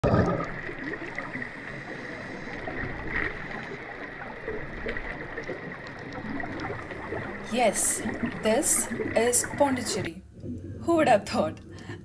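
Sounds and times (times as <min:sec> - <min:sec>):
muffled underwater wash: 0:00.0 - 0:12.0.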